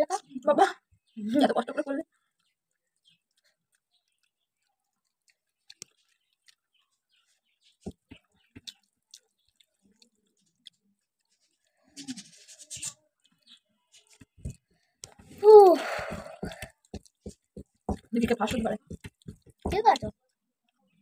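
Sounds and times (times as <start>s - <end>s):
chewing: 2.0s - 21.0s.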